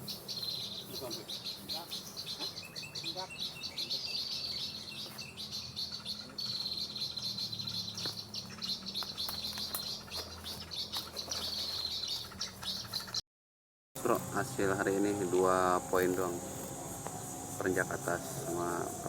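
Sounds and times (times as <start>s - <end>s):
insects chirring: 0.0s - 13.1s, 14.0s - 19.0s
bird chirps: 0.0s - 13.2s, 14.2s - 19.0s.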